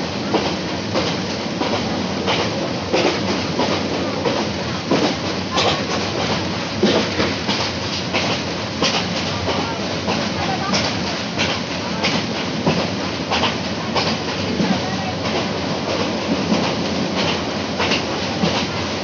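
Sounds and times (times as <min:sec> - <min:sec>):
train running noise: 0:00.0 - 0:19.0
train wheels clacking over rail joints: 0:00.2 - 0:19.0.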